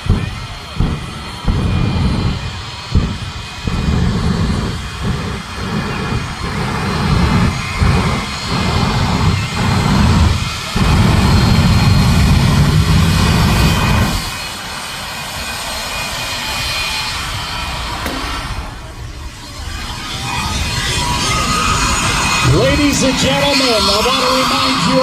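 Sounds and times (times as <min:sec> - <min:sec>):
jet engine roaring: 0:00.0 - 0:25.0.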